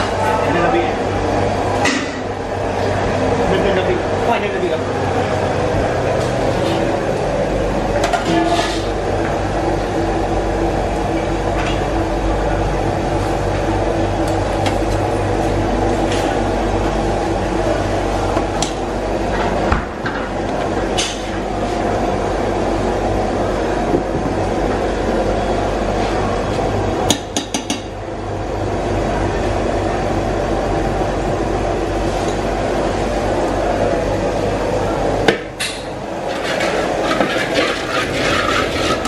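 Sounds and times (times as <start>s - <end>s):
kitchen equipment roaring: 0.0s - 39.0s.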